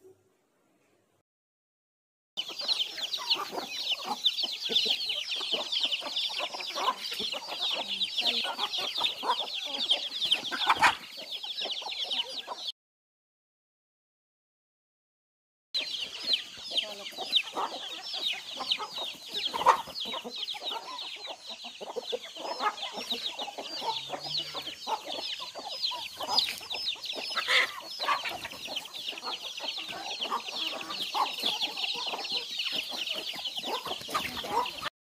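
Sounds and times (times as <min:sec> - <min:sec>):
chicks peeping: 0:02.4 - 0:12.7, 0:15.8 - 0:34.9
hens clucking: 0:02.4 - 0:12.7, 0:15.8 - 0:34.9.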